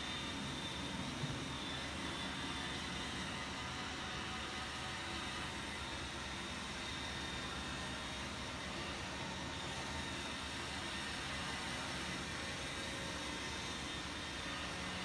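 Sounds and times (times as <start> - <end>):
robot vacuum running: 0.0 - 15.0.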